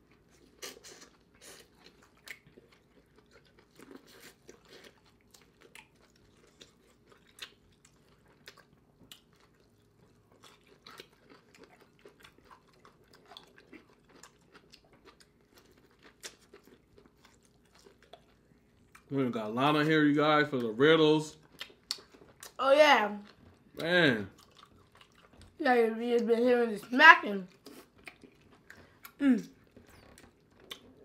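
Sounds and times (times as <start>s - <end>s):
chewing and lip-smacking: 0.0s - 19.1s, 20.6s - 22.6s, 23.2s - 26.9s, 27.5s - 31.0s.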